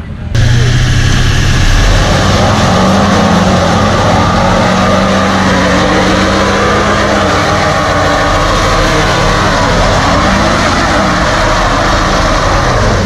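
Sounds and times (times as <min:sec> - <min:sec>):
truck engine at high revs: 0:00.4 - 0:13.0
tyres spinning on asphalt: 0:01.9 - 0:13.0.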